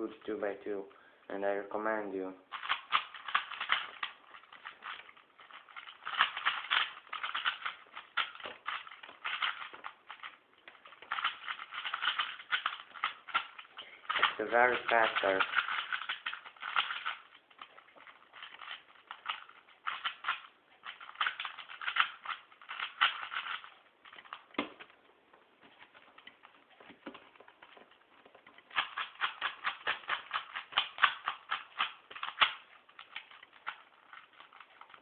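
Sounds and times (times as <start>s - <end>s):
puzzle cube layers clacking: 2.4s - 35.0s.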